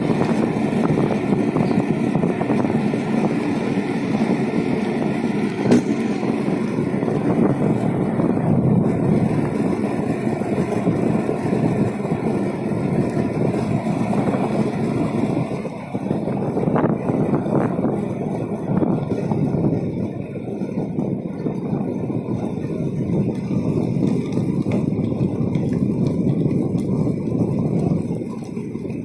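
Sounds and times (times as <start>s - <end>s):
wheels rolling on asphalt: 0.0s - 29.0s
wind on microphone: 0.0s - 29.0s.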